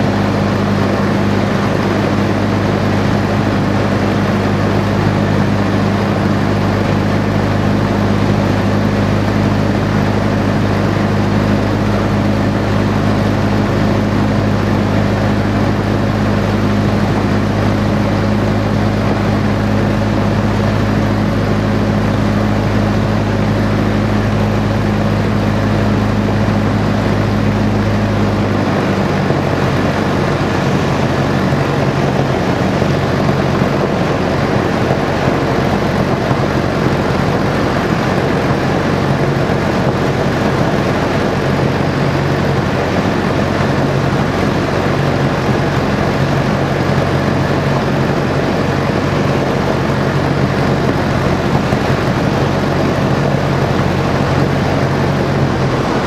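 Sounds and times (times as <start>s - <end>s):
propeller plane engine: 0.0s - 56.0s
wind rush: 0.0s - 56.0s.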